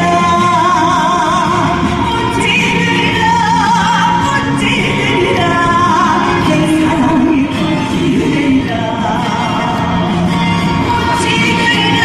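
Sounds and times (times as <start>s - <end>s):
band backing: 0.0s - 12.0s.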